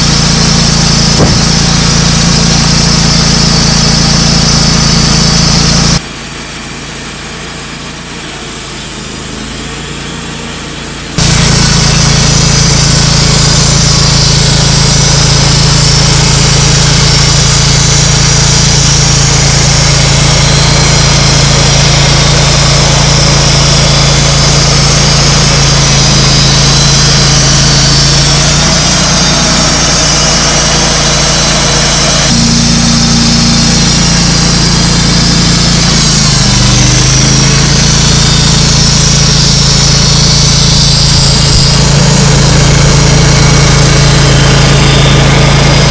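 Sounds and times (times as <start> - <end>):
band blade sawing log: 0.0 - 6.4, 8.0 - 45.9
sawmill engine humming: 0.0 - 45.9.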